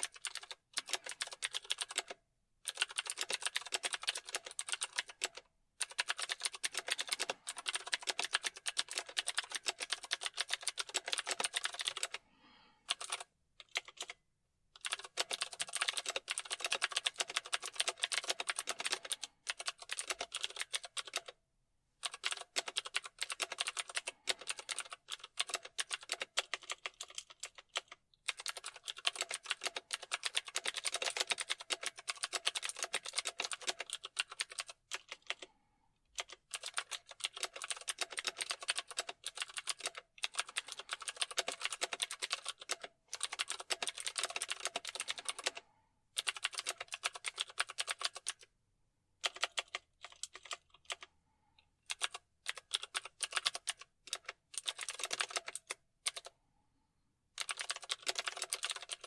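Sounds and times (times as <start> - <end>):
computer keyboard typing: 0.0 - 12.2, 12.9 - 14.2, 14.8 - 21.4, 22.0 - 35.5, 36.1 - 48.5, 49.2 - 51.1, 51.8 - 56.3, 57.4 - 59.0.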